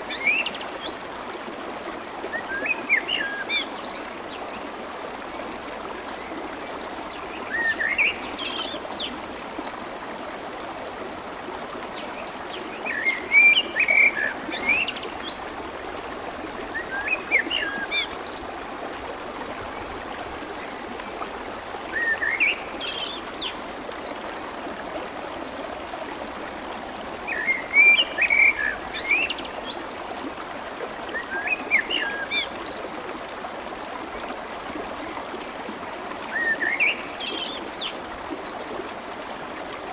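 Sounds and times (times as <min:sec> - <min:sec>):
water flowing and babbling: 0:00.0 - 0:39.9.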